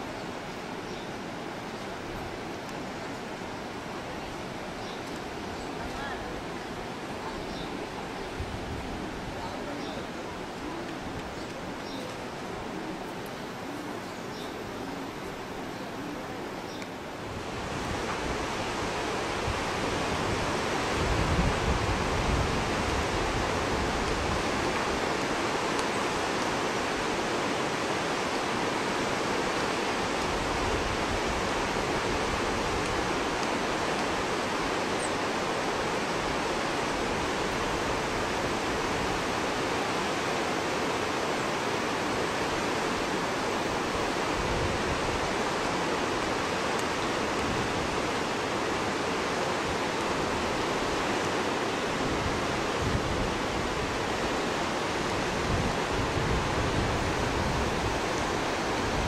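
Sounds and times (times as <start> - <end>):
fast river rushing: 0.0 - 59.0.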